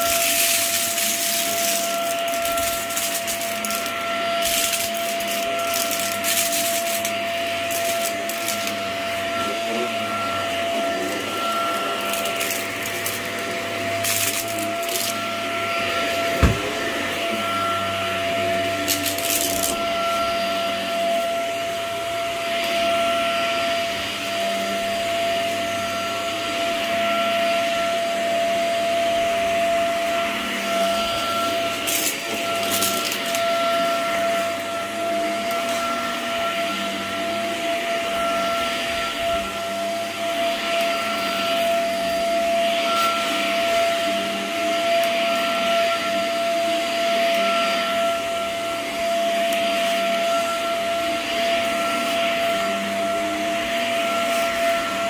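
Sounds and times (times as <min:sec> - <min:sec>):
vacuum cleaner running on carpet: 0:00.0 - 0:55.0.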